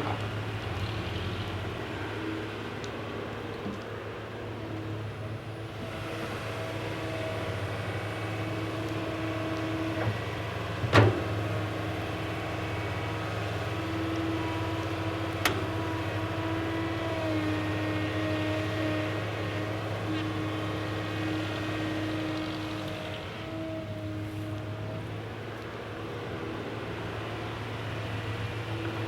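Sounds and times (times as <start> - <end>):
excavator motor running: 5.6 - 29.0.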